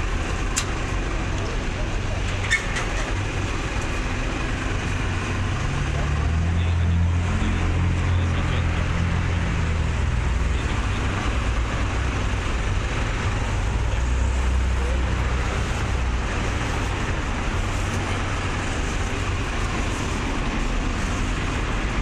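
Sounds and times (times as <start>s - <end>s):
cars passing: 0.0s - 22.0s
vehicle engine drone: 0.0s - 22.0s.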